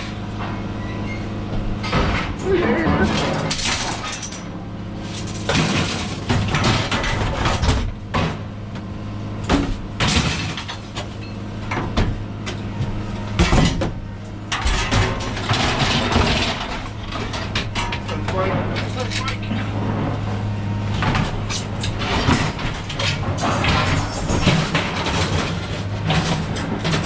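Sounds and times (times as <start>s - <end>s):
vehicle engine humming: 0.0s - 27.0s
knocks and rattles: 1.5s - 4.5s, 5.1s - 20.2s, 20.9s - 27.0s.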